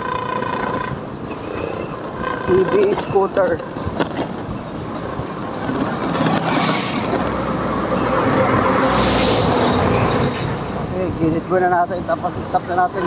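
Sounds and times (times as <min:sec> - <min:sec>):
truck diesel engine passing: 0:00.0 - 0:11.1
wind and road noise: 0:00.0 - 0:13.0.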